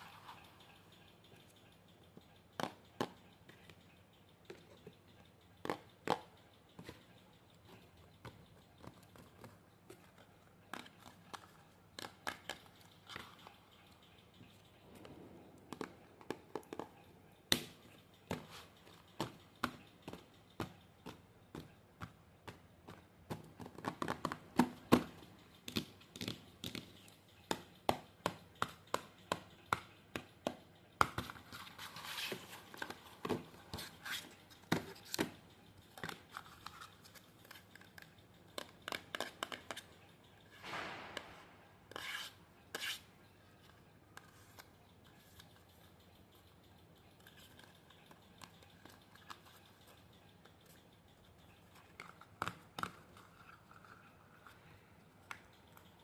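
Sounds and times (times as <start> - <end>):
sharp taps and clicks: 0.4 - 54.0.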